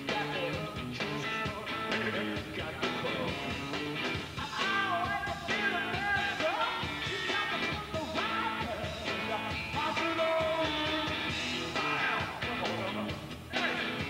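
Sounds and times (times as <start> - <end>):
man singing into microphone: 0.0 - 3.7, 4.4 - 14.0
live rock band playing loud: 0.0 - 14.0.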